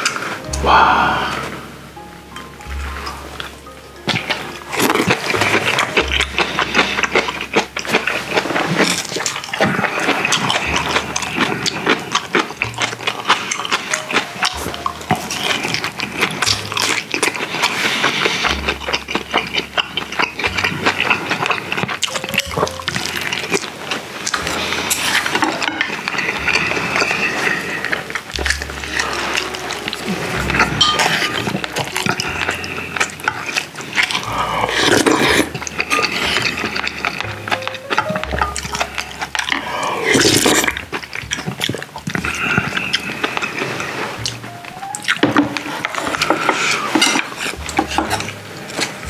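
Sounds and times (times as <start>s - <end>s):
person chewing: 0.0s - 49.0s.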